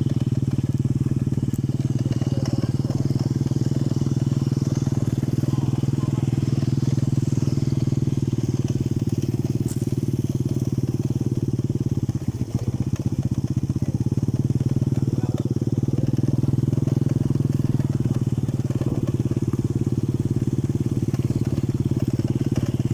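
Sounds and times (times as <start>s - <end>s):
small engine running steadily: 0.0s - 22.9s.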